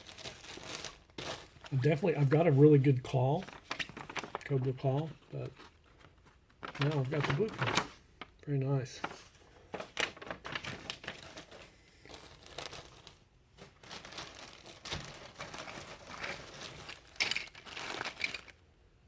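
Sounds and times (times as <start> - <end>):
plastic bags and paper crinkling: 0.0 - 18.6.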